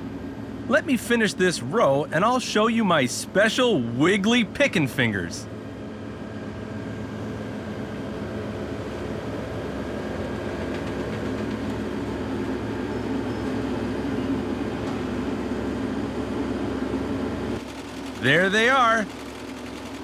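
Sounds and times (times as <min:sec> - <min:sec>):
harvester engine running: 0:00.0 - 0:20.0.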